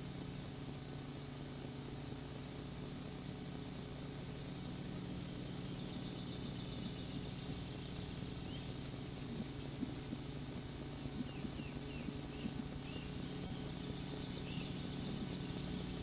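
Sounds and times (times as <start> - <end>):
steady hiss and low hum: 0.0 - 16.0.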